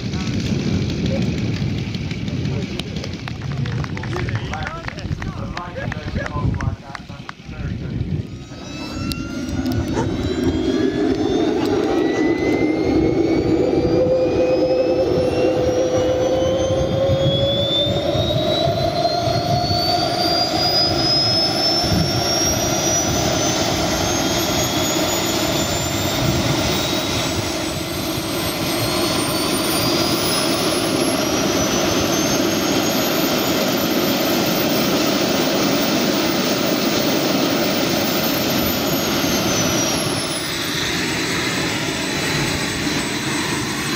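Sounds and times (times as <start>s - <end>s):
model jet turbines whining: 0.0s - 43.9s.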